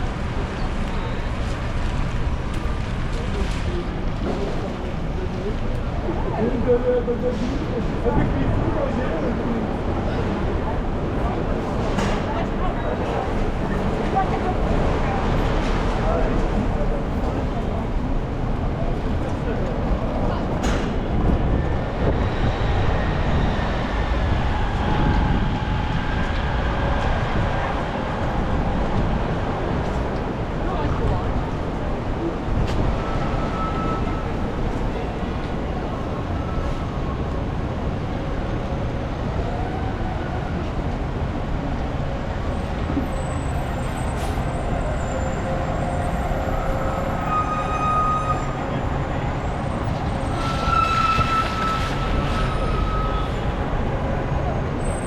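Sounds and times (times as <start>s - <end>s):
street traffic on wet roads: 0.0s - 55.0s.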